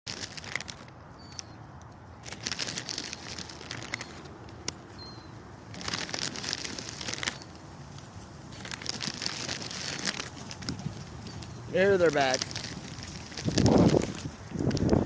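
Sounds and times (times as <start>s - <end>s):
plastic bag crinkling: 0.1s - 0.9s, 2.2s - 15.0s
quick clicking crackles: 0.1s - 15.0s.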